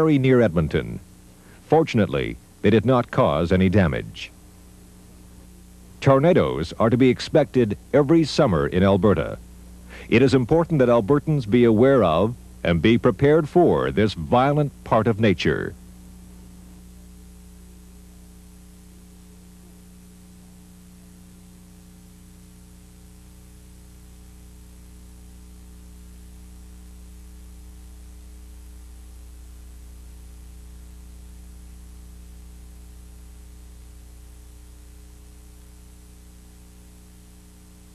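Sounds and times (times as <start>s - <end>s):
electrical mains hum: 0.0s - 37.9s
faint tape hiss: 0.0s - 37.9s.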